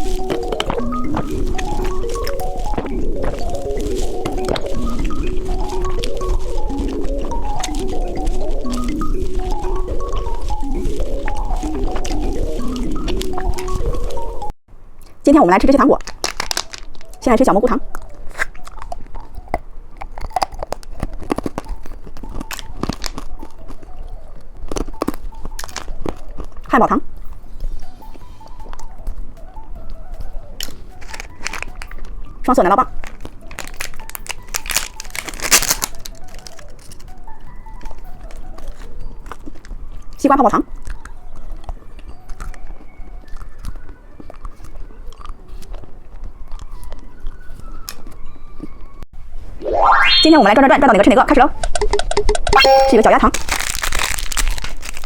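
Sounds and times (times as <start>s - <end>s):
chewing bubble gum: 0.0s - 14.5s, 16.0s - 17.2s, 17.8s - 49.0s, 51.6s - 55.0s
candy crunching: 0.0s - 15.2s, 15.9s - 27.2s, 30.1s - 48.2s, 51.8s - 55.0s.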